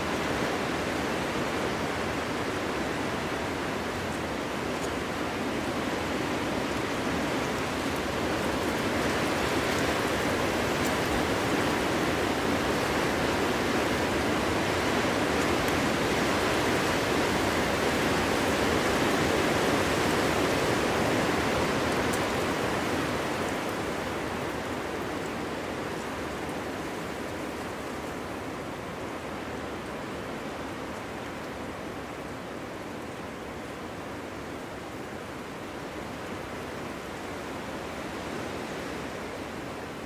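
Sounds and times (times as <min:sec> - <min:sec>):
wind blowing through forest: 0:00.0 - 0:40.0.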